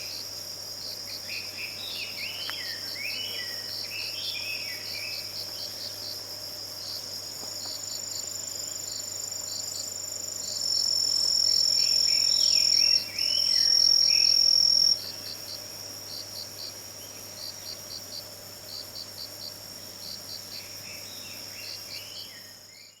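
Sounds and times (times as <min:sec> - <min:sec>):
insects trilling and chirping: 0:00.0 - 0:23.0
loud continuous insect trill: 0:00.0 - 0:23.0.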